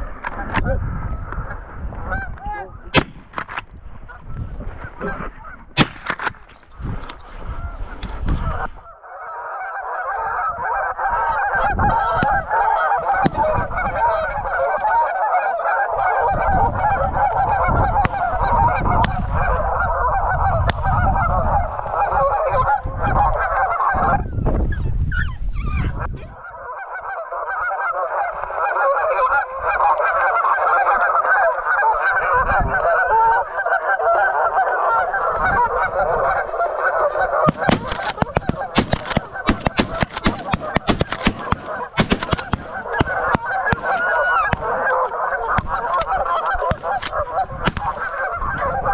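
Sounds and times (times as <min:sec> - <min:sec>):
geese honking: 0:00.0 - 0:03.1, 0:04.0 - 0:48.9.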